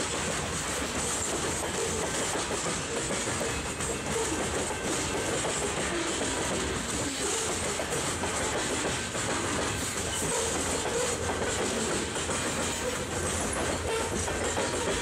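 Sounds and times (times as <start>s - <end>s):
freight train wheels rumbling and clicking: 0.0s - 15.0s.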